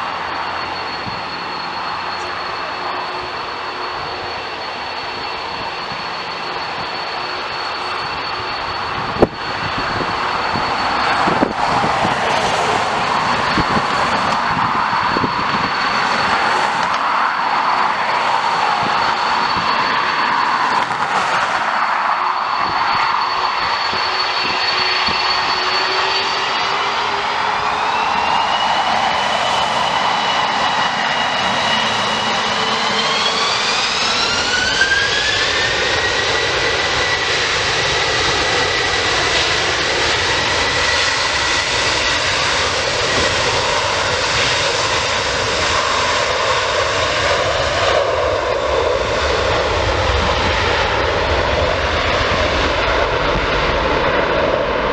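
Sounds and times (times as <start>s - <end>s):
jet engines spooling up: 0.0s - 54.9s.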